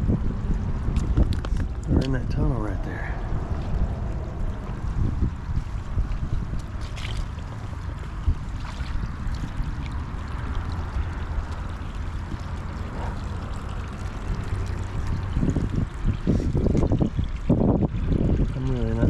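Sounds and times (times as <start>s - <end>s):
wind rumble on microphone: 0.0s - 19.0s
creek water rushing: 1.0s - 19.0s.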